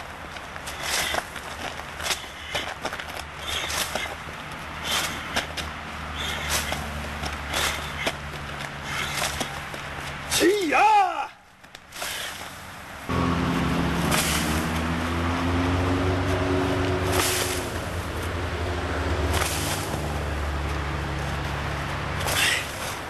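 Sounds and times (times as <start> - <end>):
engine humming: 0.0 - 10.7, 11.5 - 23.0.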